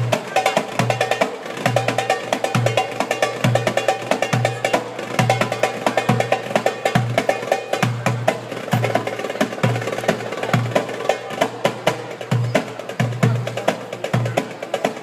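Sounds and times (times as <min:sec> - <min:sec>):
music with steady drum beat: 0:00.0 - 0:15.0
wood-block-like percussion: 0:00.0 - 0:15.0.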